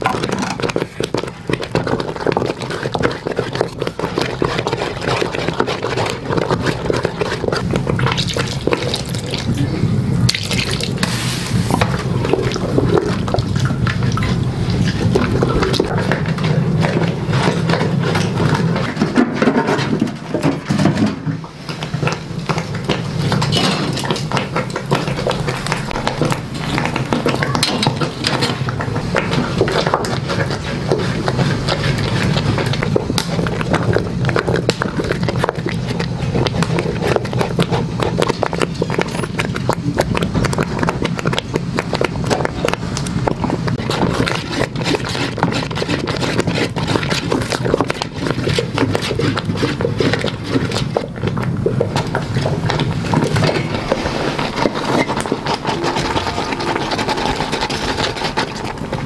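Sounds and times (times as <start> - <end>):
stick knocking and scraping pot: 10.3 - 59.0.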